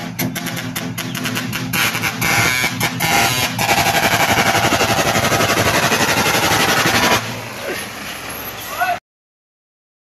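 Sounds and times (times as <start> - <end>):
dump truck fast pulse: 0.0 - 8.7.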